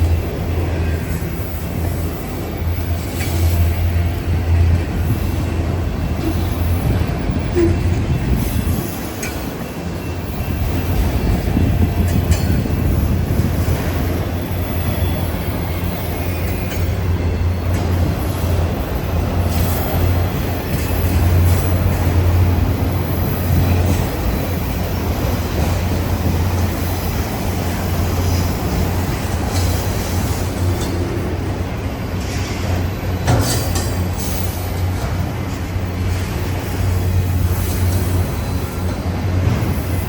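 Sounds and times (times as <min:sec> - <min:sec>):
freight train rumbling on rails: 0:00.0 - 0:40.0.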